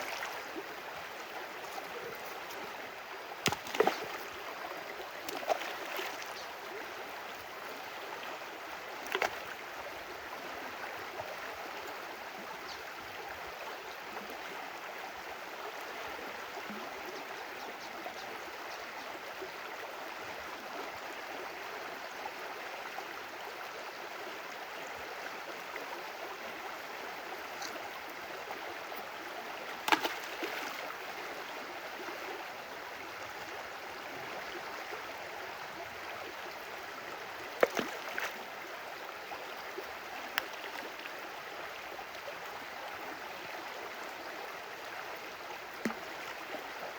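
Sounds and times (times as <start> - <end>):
stream water running: 0.0 - 46.9.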